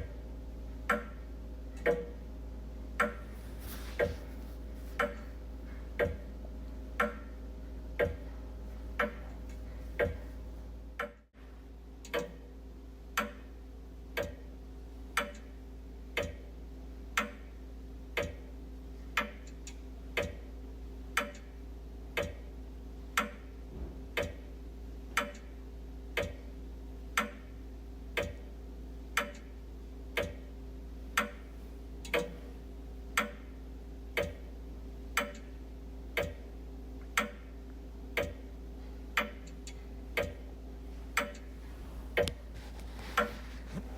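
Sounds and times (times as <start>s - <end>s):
wall clock ticking: 0.0s - 11.4s, 12.0s - 43.9s
faint low hum: 0.0s - 43.9s.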